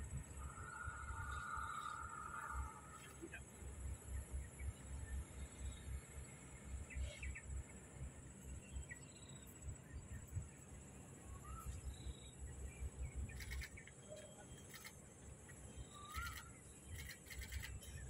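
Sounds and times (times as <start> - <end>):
faint bird chirps: 0.0 - 18.0
high insect drone: 0.0 - 18.0.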